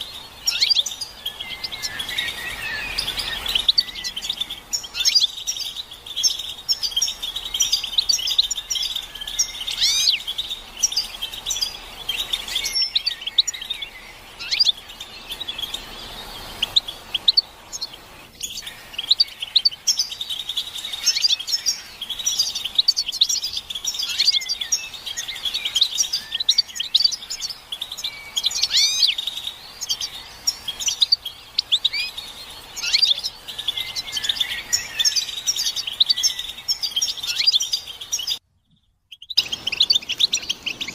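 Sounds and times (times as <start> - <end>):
goldfinches twittering: 0.0 - 38.4, 39.2 - 40.9.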